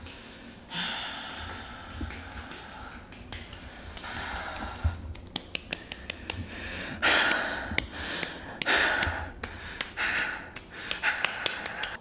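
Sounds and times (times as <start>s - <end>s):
loud gasping breaths: 0.3s - 5.1s, 5.8s - 12.0s.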